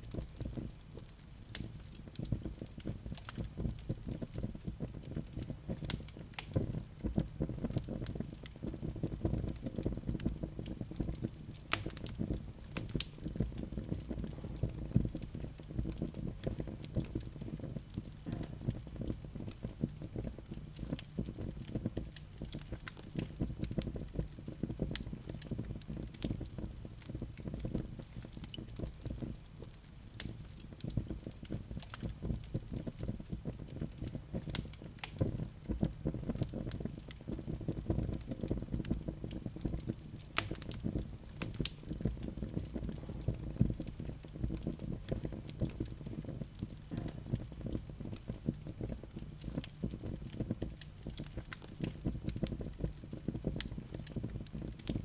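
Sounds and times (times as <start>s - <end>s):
low rumble of burning logs: 0.0s - 55.0s
wood fire crackling: 0.0s - 55.0s.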